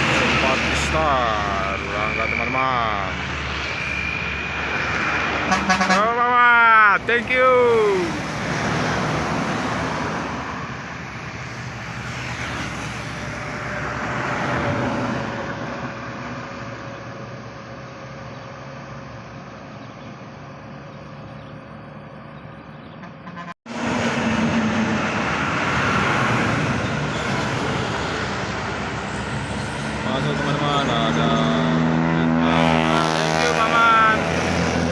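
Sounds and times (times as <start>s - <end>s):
road traffic passing: 0.0s - 34.9s.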